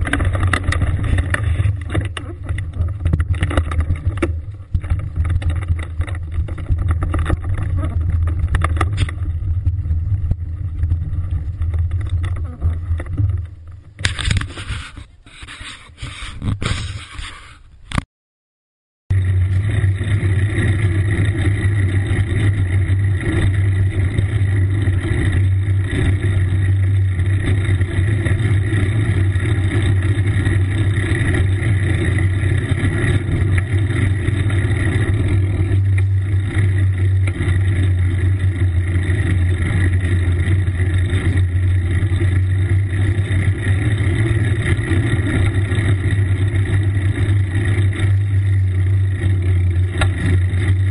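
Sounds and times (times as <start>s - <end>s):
rumbling wind noise: 0.0s - 17.3s, 19.1s - 50.9s
road noise: 0.0s - 18.0s, 19.1s - 50.9s.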